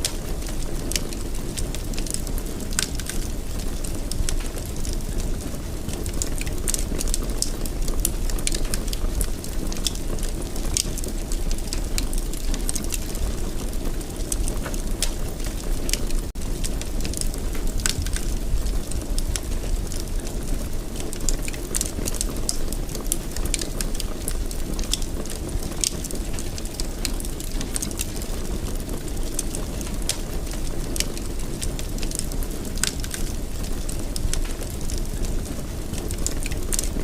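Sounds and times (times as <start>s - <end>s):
rumble of flame: 0.0s - 37.0s
wood crackling and popping: 0.0s - 37.0s.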